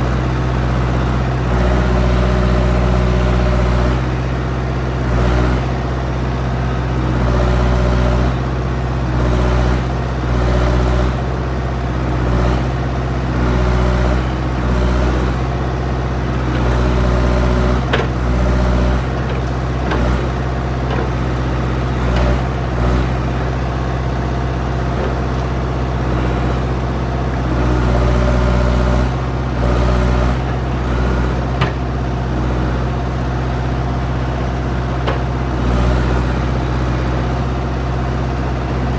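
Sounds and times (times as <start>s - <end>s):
backhoe engine under load: 0.0s - 38.9s.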